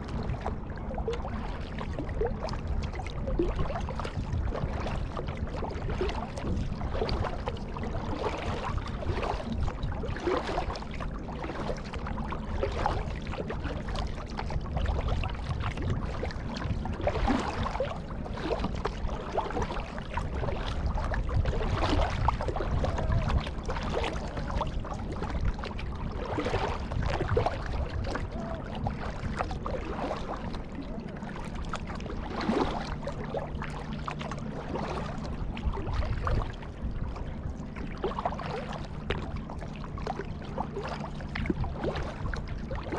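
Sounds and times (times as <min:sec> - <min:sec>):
kayak paddle splashing: 0:00.0 - 0:42.9
water washing along hull: 0:00.0 - 0:42.9.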